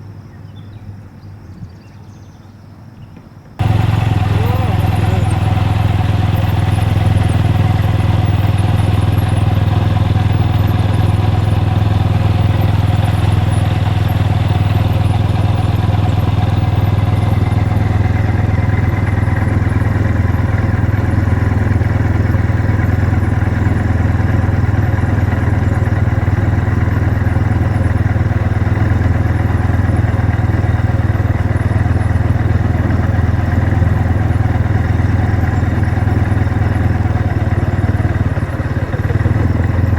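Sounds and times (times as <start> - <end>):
vehicle engine running steadily: 3.6 - 39.9.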